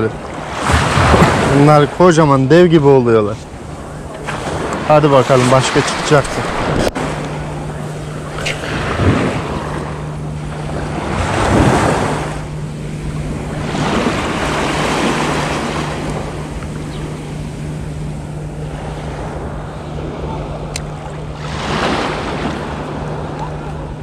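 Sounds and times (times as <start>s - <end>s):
small waves washing ashore: 0.0s - 24.0s
steady low hum: 0.0s - 24.0s.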